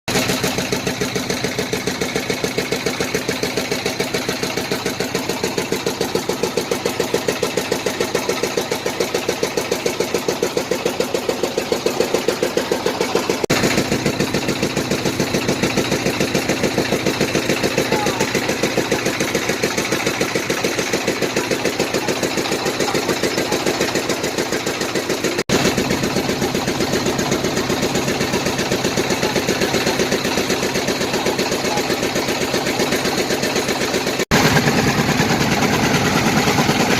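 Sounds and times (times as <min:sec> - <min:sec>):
boat engine chugging: 0:00.1 - 0:36.9.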